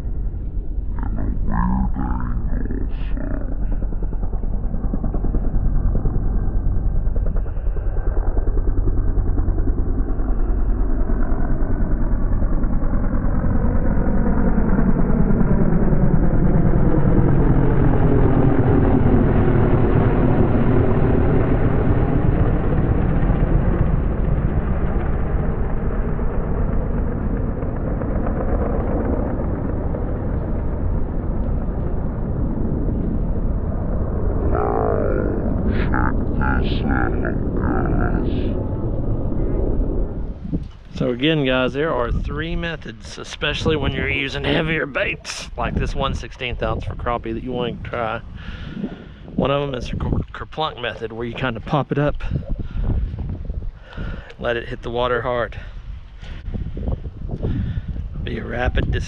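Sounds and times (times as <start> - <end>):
helicopter flying overhead: 0.0 - 59.0.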